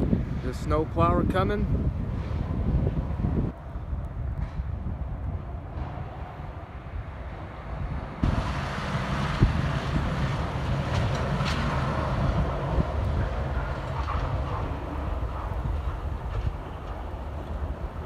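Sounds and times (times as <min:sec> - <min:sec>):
truck engine rumble: 0:00.0 - 0:18.0
wind on microphone: 0:00.0 - 0:18.0.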